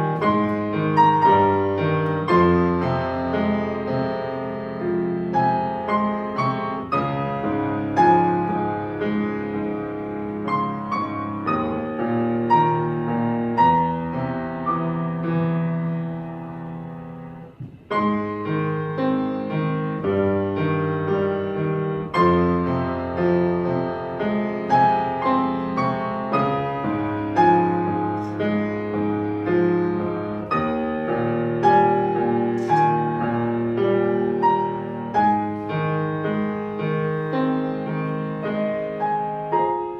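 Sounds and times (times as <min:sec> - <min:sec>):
solo piano piece: 0:00.0 - 0:39.9.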